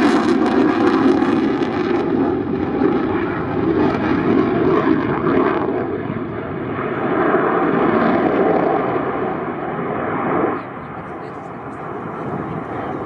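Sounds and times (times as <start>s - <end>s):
fighter jet rumble: 0.0s - 10.8s.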